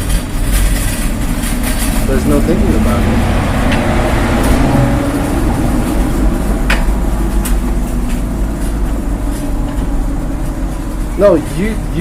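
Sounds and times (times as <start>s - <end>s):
vehicle engine running: 0.0s - 12.0s
wind buffeting microphone: 1.0s - 11.1s.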